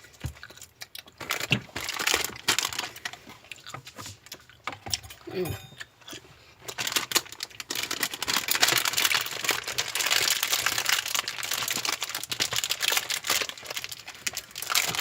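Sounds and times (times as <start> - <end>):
plastic packaging crinkling: 0.0 - 4.4, 6.6 - 15.0.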